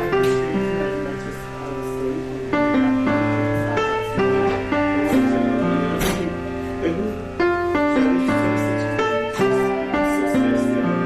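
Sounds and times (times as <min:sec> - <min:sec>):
slow piano background music: 0:00.0 - 0:11.0.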